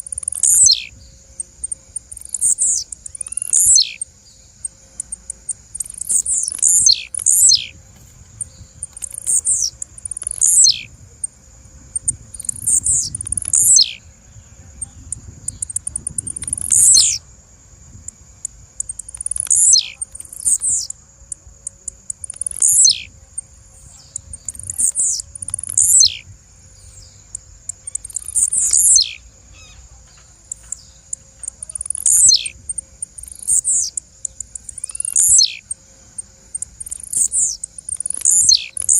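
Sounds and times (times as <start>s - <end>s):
bird calling with downward notes: 0.0s - 17.2s, 18.8s - 38.9s.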